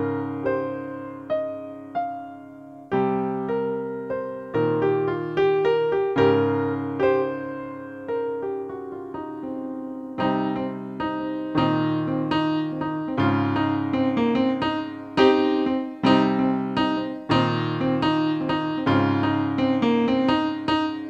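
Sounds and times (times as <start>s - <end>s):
solo electric piano: 0.0s - 21.0s.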